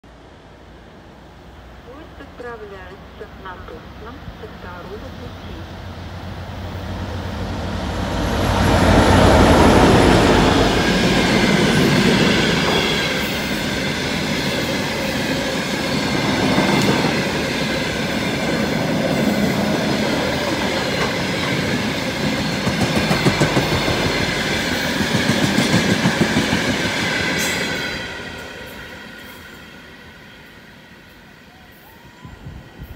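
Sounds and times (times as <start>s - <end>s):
diesel locomotive engine passing: 0.1s - 32.9s.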